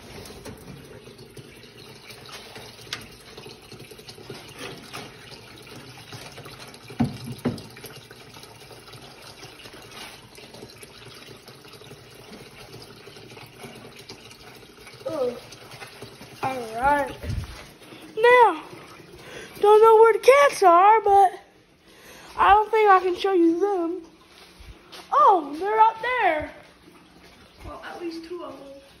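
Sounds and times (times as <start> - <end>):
water running: 0.0 - 29.0.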